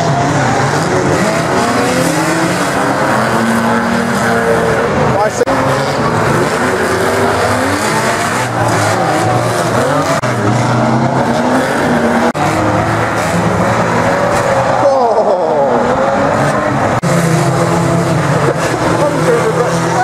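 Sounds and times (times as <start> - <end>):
racing car engines revving: 0.0 - 20.0.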